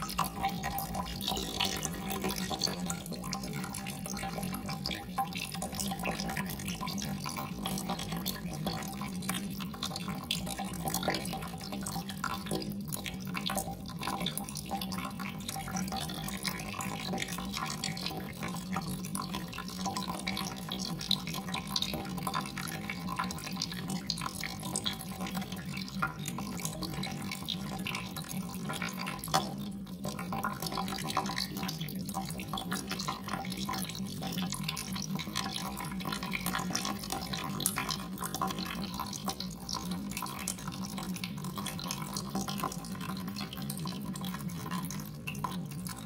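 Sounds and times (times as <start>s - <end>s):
water dripping: 0.0s - 46.0s.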